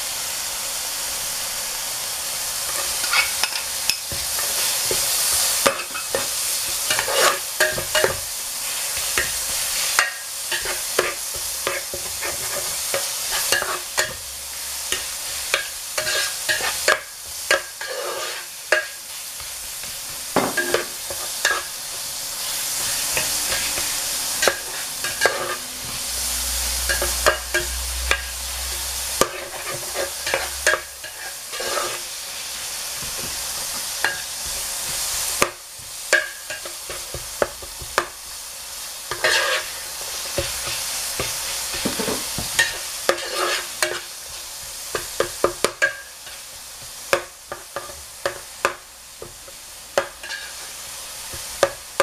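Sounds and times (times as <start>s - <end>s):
food sizzling in a pot: 0.0s - 52.0s
metal spatula scraping a pan: 2.6s - 38.1s, 39.0s - 46.5s, 50.0s - 50.8s.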